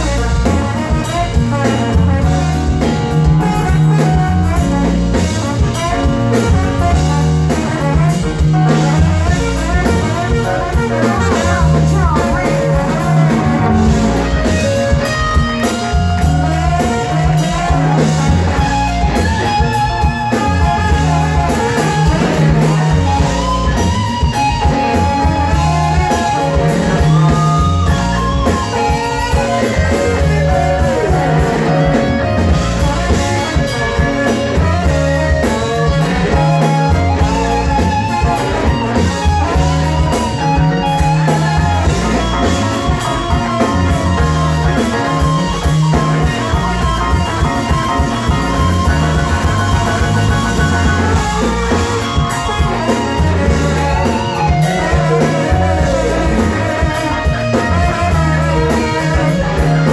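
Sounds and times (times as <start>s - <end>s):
electric guitar: 0.0s - 59.9s
live blues-rock band: 0.0s - 59.9s
repeating bass line: 0.0s - 59.9s
trombone: 0.0s - 59.9s.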